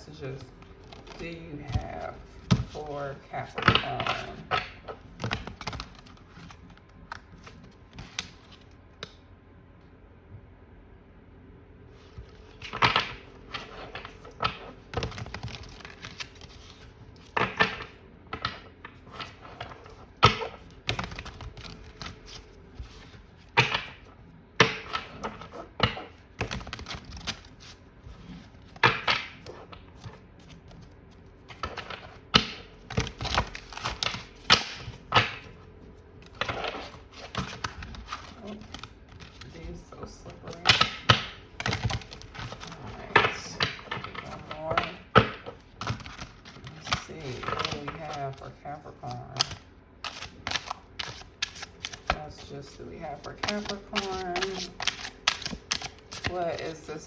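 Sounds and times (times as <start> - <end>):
cards rustling: 0.2 - 8.8, 12.0 - 57.0
cards slapping and clicking: 0.3 - 9.2, 12.0 - 56.9.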